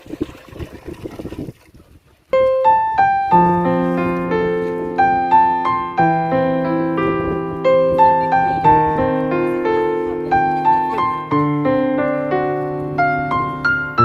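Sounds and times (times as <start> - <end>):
gentle piano melody: 2.3 - 14.0.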